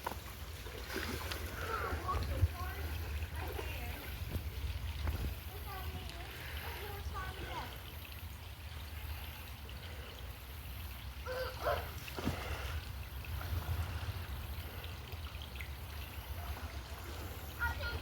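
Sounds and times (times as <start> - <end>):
creek water trickling: 0.0 - 18.0.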